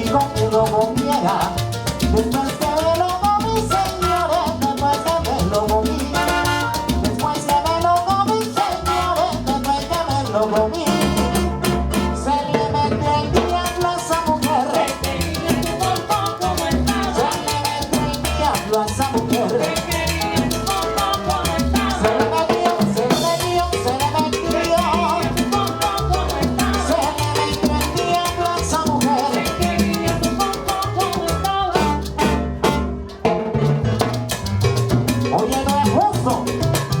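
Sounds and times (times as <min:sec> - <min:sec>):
live salsa band playing: 0:00.0 - 0:37.0.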